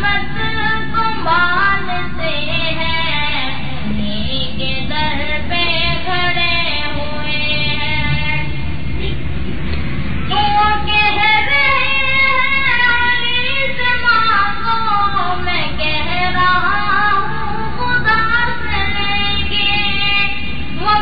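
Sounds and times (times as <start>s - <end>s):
high voice singing unaccompanied: 0.0s - 9.1s, 10.3s - 21.0s
steady low hum: 0.0s - 21.0s.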